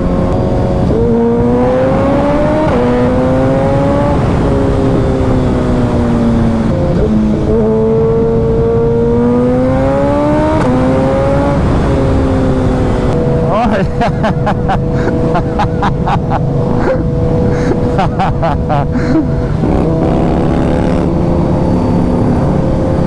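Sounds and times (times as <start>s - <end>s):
motorcycle engine at high speed: 0.0s - 23.0s.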